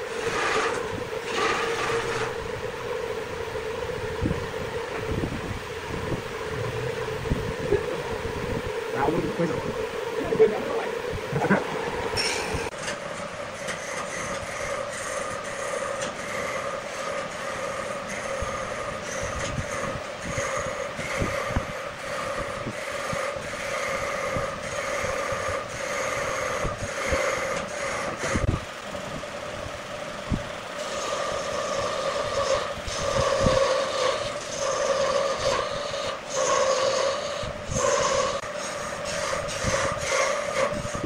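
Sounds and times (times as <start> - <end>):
turning tool cutting wood: 0.0 - 28.5, 30.8 - 41.0
wood lathe whine: 0.0 - 41.0.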